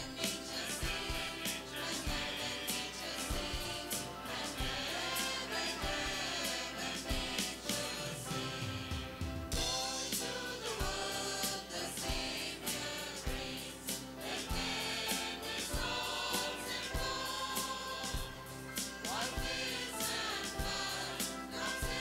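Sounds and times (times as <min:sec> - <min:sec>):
instrumental accompaniment: 0:00.0 - 0:22.0
mixed choir singing a hymn: 0:00.0 - 0:22.0
steady drum beat: 0:00.0 - 0:22.0.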